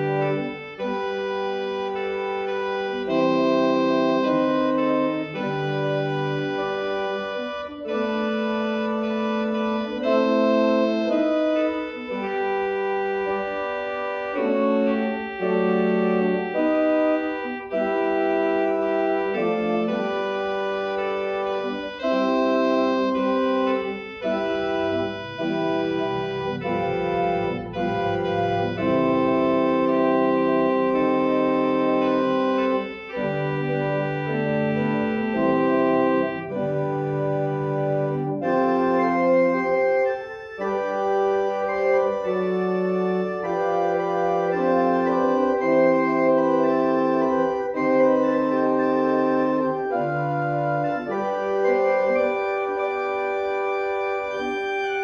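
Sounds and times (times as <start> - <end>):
church organ chords: 0.0 - 55.0
organ pedal bass notes: 0.0 - 55.0.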